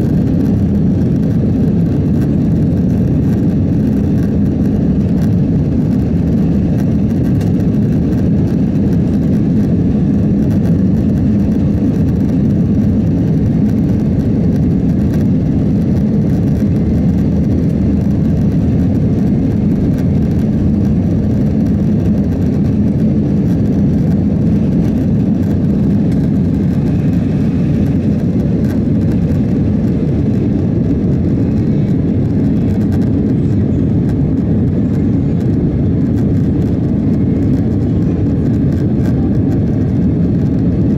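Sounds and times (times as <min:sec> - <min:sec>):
jet engine rumble in cabin: 0:00.0 - 0:40.9.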